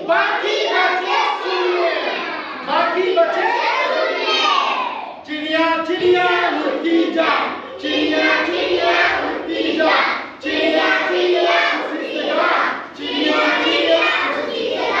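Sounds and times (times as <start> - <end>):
children singing in unison: 0.0 - 2.7, 3.4 - 5.2, 6.2 - 15.0.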